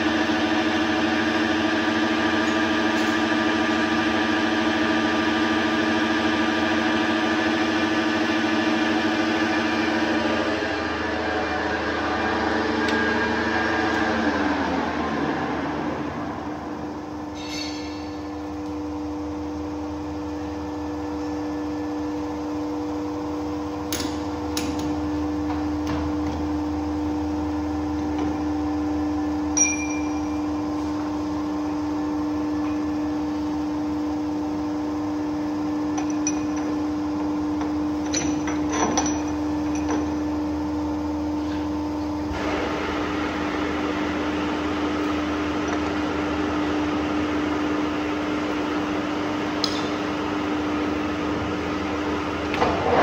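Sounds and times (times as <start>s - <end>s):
metal lathe humming: 0.0s - 53.0s.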